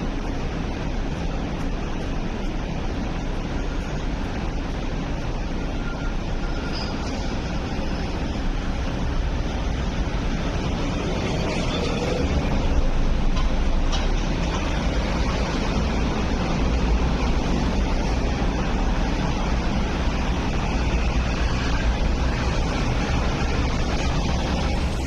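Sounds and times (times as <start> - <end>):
traffic and city rumble: 0.0 - 25.0.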